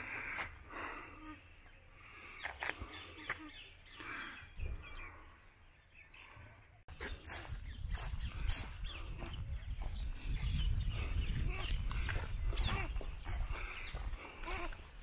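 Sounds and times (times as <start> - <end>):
birds chirping: 0.0 - 15.0
outdoor background noise: 0.0 - 15.0.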